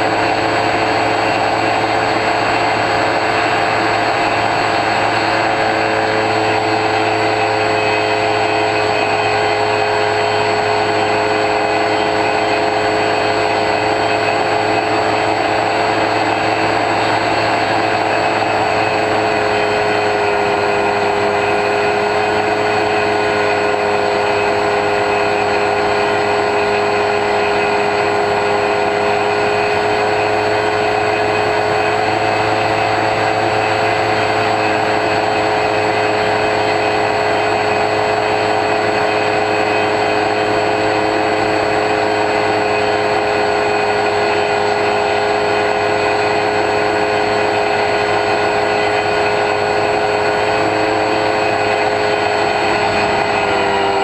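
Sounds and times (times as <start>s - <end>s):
electric motor and propeller whine: 0.0s - 54.0s
rushing air: 0.0s - 54.0s.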